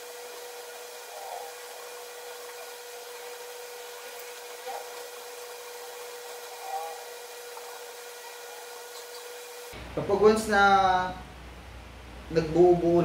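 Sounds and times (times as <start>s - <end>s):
faint constant hum: 0.1s - 13.0s.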